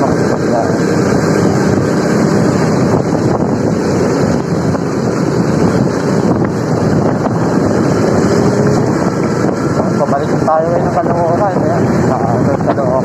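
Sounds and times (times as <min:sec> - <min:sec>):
motorcycle running at speed: 0:00.0 - 0:13.0
wind buffeting microphone: 0:00.0 - 0:13.0.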